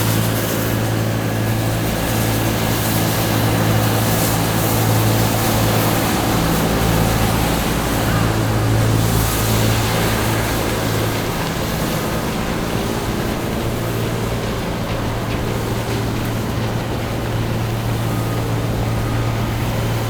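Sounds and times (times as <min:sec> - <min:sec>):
engine humming: 0:00.0 - 0:20.0
steady rushing noise: 0:00.0 - 0:20.0.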